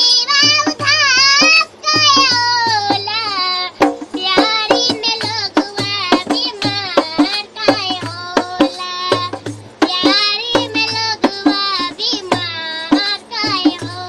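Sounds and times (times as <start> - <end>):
girl singing high: 0.0 - 14.0
drum strikes: 0.4 - 14.0.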